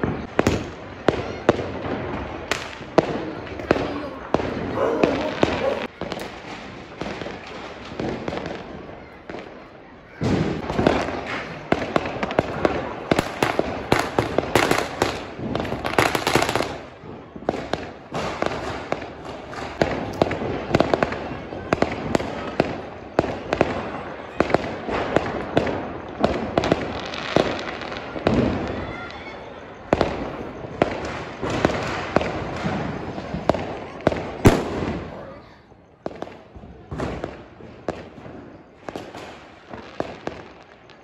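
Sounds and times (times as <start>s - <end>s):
fireworks bangs and crackling: 0.0s - 41.0s.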